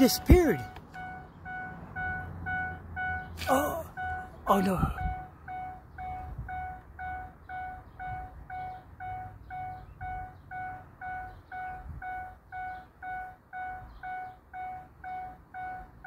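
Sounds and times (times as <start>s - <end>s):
electronic beeper tone: 0.0s - 15.9s.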